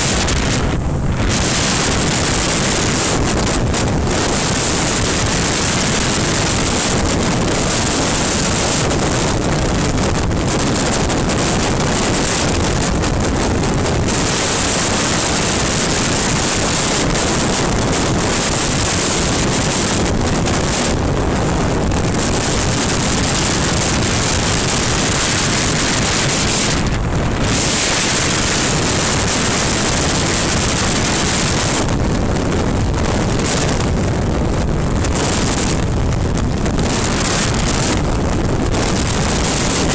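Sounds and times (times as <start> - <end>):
motorcycle engine and tyre noise: 0.0 - 39.9
wind rush on microphone: 0.0 - 39.9.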